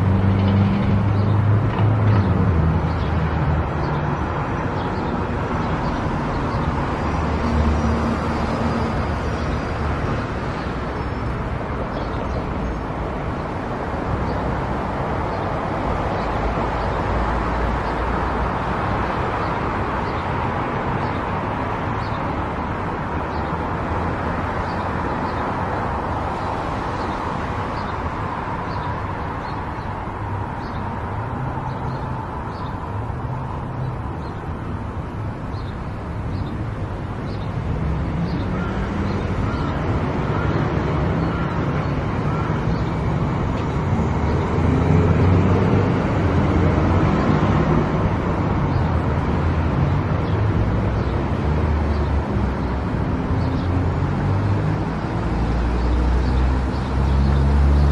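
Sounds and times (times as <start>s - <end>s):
car engine and tyre noise: 0.0s - 57.9s.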